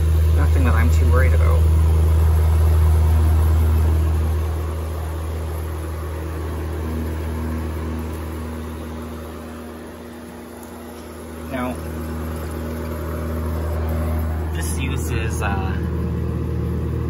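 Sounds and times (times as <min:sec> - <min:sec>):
dehumidifier compressor hum: 0:00.0 - 0:17.0
fan rushing air: 0:00.0 - 0:17.0.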